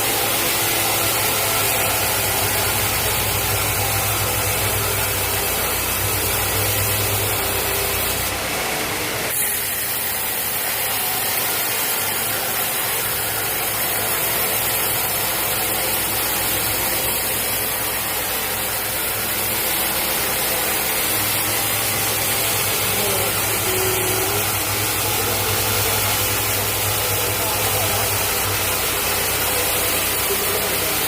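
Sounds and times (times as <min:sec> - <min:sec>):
sawmill machinery engine running: 0:00.0 - 0:31.0.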